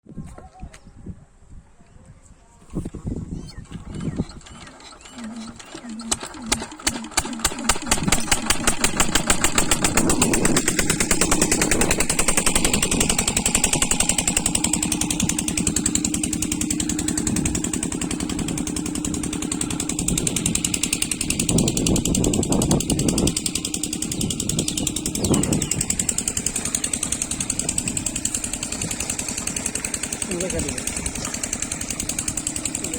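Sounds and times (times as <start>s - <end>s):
diesel engine thudding: 2.9s - 32.9s.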